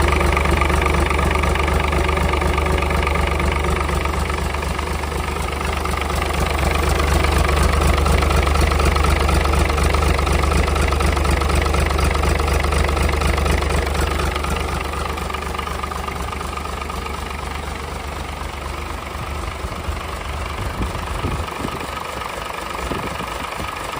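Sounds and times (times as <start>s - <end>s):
marine diesel engine humming: 0.0s - 23.9s.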